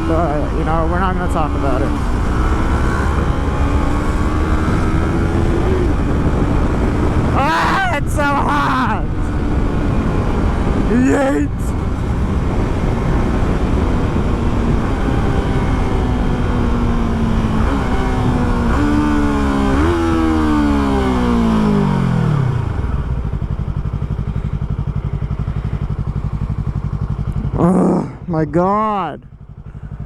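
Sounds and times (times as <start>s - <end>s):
wind rush on microphone: 0.0s - 24.5s
motorcycle engine: 0.0s - 30.0s.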